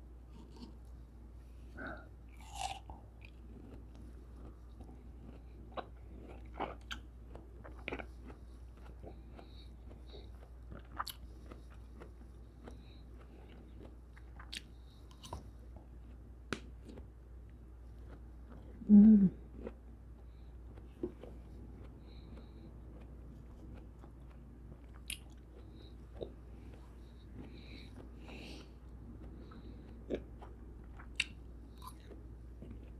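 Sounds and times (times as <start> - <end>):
faint low hum: 0.0 - 32.9
chewing with wet mouth sounds: 1.8 - 32.9.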